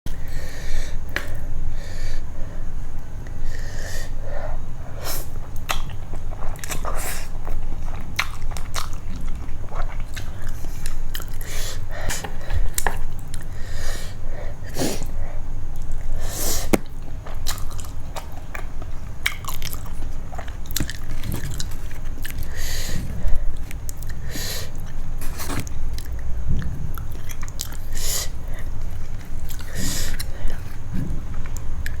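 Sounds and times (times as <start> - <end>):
close chewing with wet bites: 5.2 - 13.6, 14.2 - 32.0.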